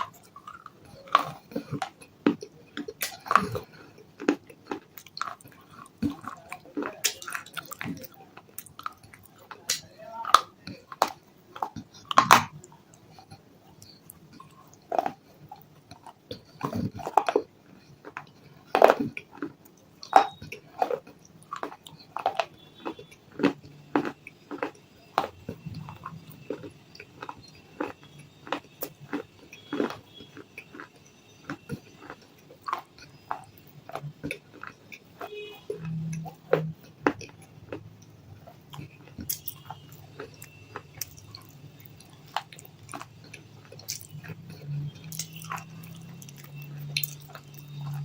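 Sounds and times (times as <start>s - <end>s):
chewing mouth sounds: 0.0s - 48.0s.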